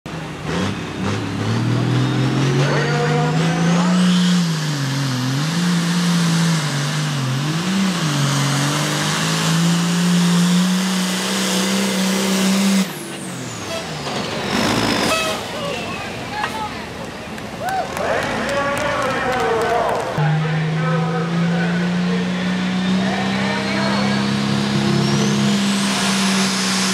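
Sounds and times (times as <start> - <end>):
diesel tractor engine at full throttle: 0.1 - 26.9.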